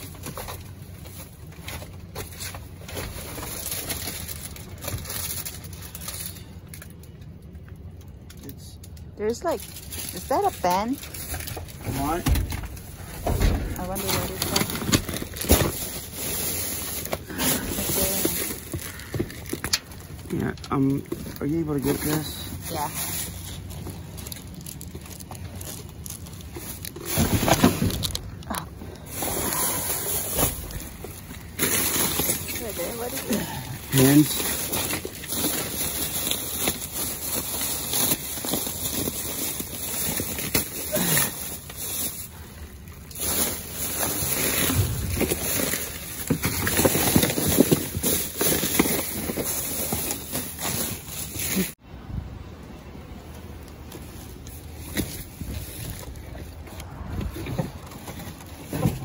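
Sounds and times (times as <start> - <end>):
rummaging through plastic-bagged trash: 0.0 - 7.8, 8.5 - 51.8, 53.8 - 59.0.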